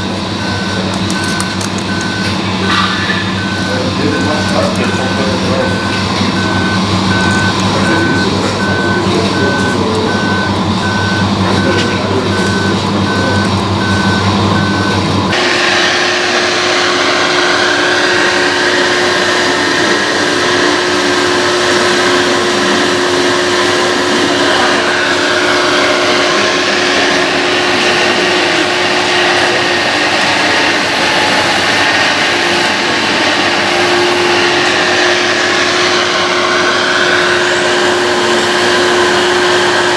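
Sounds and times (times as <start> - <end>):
low truck engine hum: 0.0 - 39.9
reversing beeper beeps: 0.0 - 39.9.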